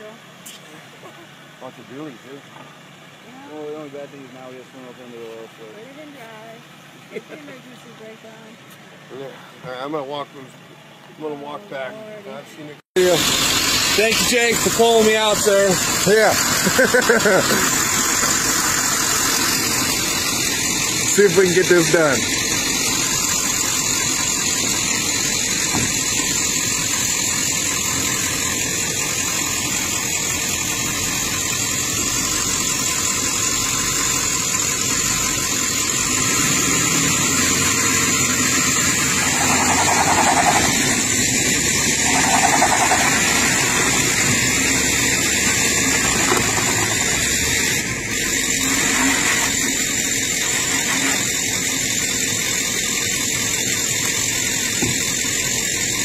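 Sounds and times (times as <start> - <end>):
engine surges: 0.0 - 56.0
vehicle engines running: 0.0 - 56.0.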